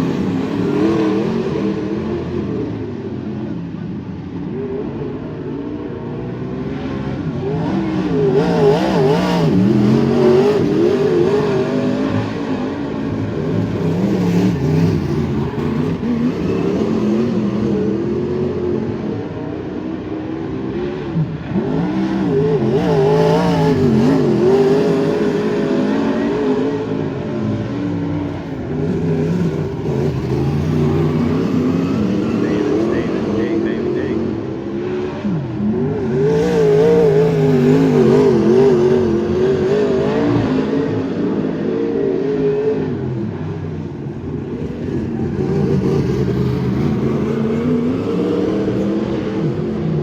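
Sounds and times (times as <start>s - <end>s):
racing car engines: 0.0s - 50.0s.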